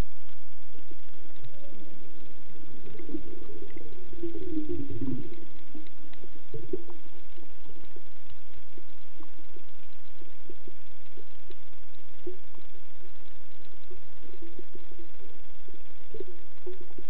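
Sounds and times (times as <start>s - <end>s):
faint underwater clicks: 0.0s - 17.0s
muffled underwater rumble: 0.0s - 17.0s.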